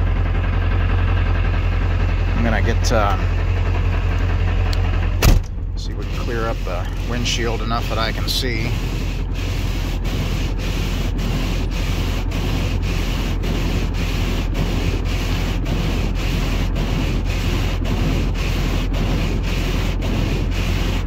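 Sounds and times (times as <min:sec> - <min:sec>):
diesel engine idling: 0:00.0 - 0:21.0
windshield wipers scraping: 0:02.4 - 0:21.0.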